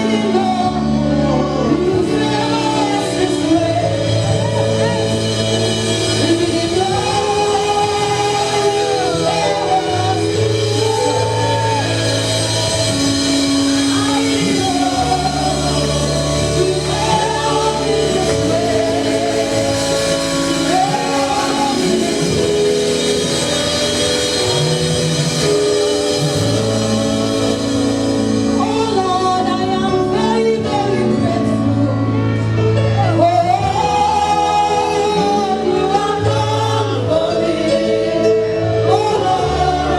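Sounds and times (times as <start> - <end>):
gospel band playing: 0.0 - 39.9
person singing: 0.0 - 39.9.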